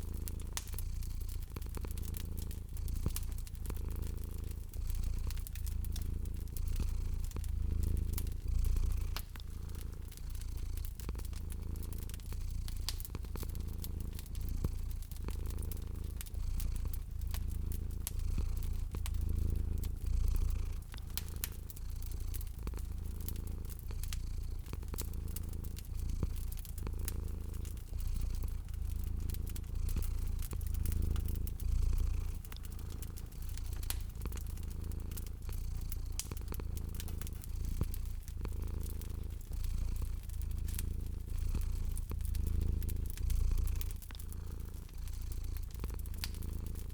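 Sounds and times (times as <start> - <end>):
cat purring: 0.0 - 46.9
wood fire crackling: 0.0 - 46.9.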